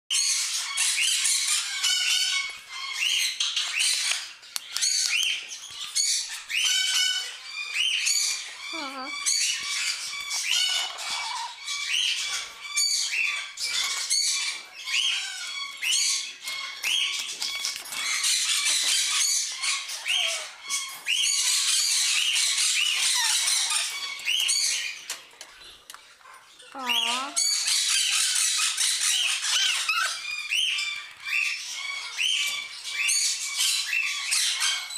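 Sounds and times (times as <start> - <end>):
parrots squawking and chirping: 0.1 - 34.9.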